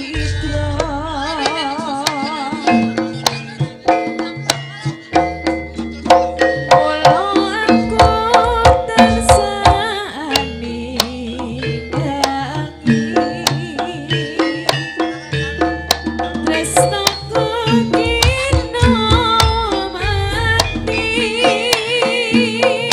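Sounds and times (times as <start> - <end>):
drums and struck metal instruments: 0.0 - 22.9
wavering melody: 0.0 - 22.9.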